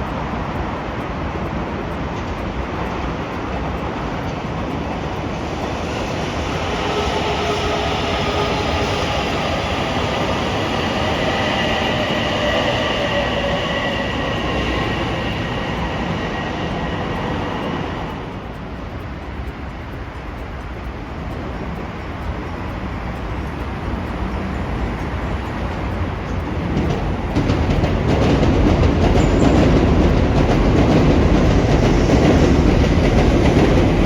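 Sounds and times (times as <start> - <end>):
electric train rumbling past: 0.0 - 34.0
multi-tone train whine: 0.0 - 34.0.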